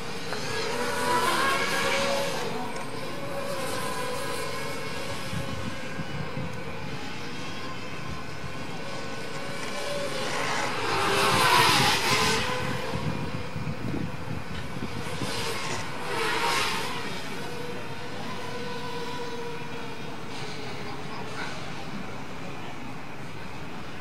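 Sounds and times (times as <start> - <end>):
drone propellers buzzing: 0.0 - 24.0.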